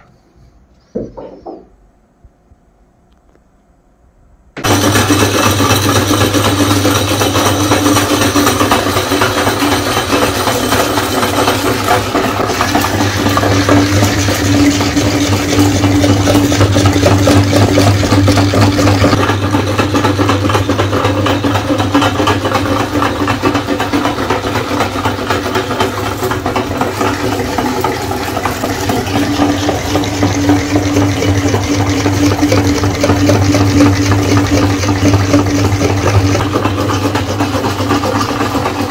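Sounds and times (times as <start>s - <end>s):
electric meat grinder humming: 4.6s - 38.9s.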